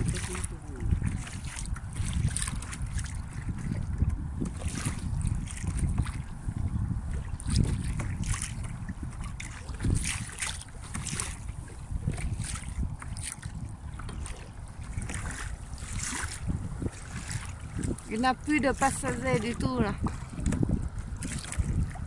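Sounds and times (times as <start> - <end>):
waves splashing against kayak hull: 0.0 - 22.0
wind buffeting microphone: 0.0 - 22.0.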